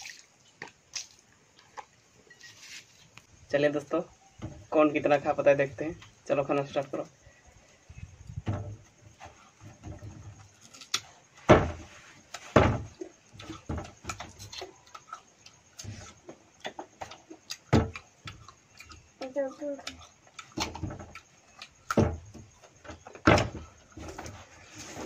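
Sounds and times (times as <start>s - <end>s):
crunchy fruit chewing: 0.0s - 3.4s, 7.2s - 11.4s, 12.1s - 25.0s.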